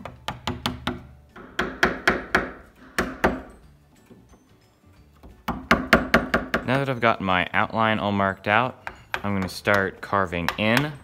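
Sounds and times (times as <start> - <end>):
wooden mallet tapping chisel: 0.0 - 4.4, 5.1 - 7.0, 8.4 - 11.0.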